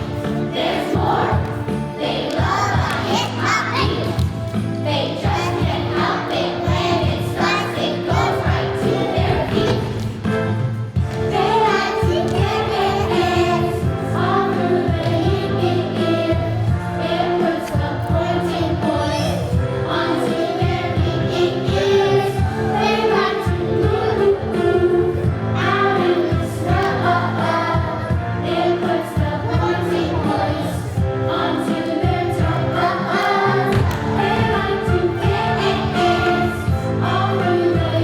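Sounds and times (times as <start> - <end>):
choir singing: 0.0 - 10.0, 11.3 - 38.0.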